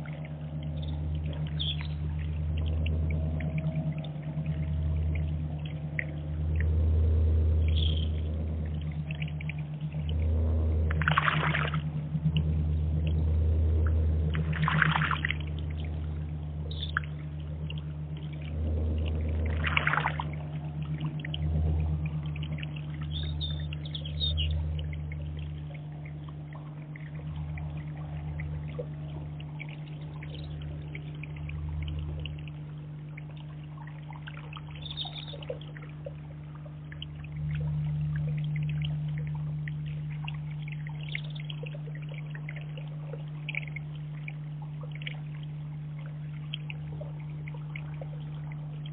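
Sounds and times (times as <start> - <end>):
steady low hum: 0.0 - 48.9
water trickling over rocks: 0.0 - 48.9.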